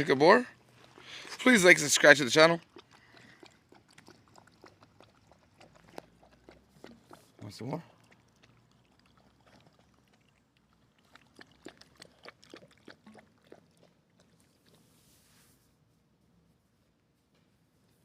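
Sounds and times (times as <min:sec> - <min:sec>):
puppy lapping water: 0:00.0 - 0:15.0.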